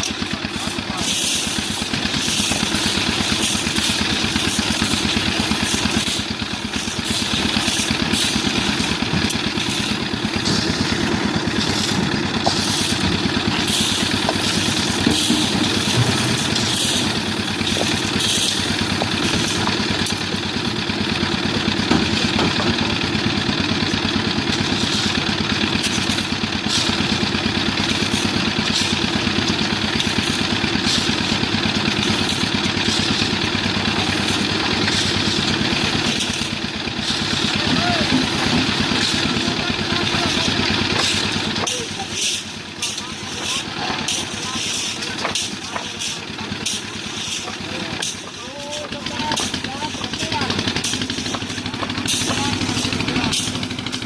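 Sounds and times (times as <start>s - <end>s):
concrete mixer engine running: 0.0s - 54.0s.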